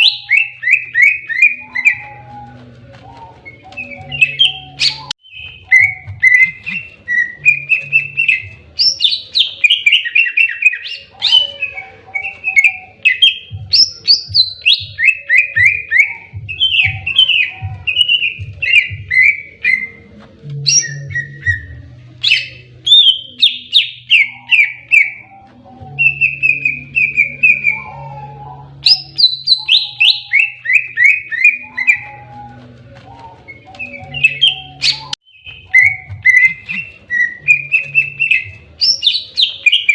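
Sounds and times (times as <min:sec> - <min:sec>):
bird singing whistled notes: 0:00.0 - 0:20.0, 0:20.6 - 0:39.9.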